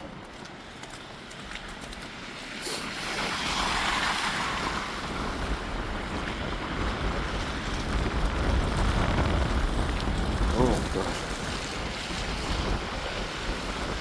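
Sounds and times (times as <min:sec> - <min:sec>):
tyres hissing on slushy road: 0:00.0 - 0:14.0
wind rumbling on microphone: 0:00.0 - 0:14.0.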